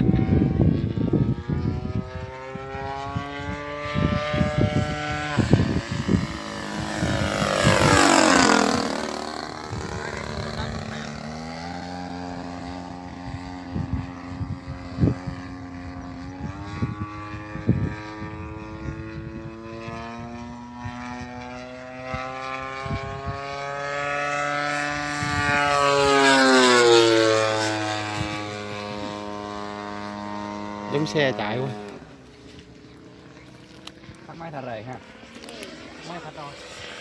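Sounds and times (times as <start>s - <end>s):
model airplane engine: 0.0s - 37.0s.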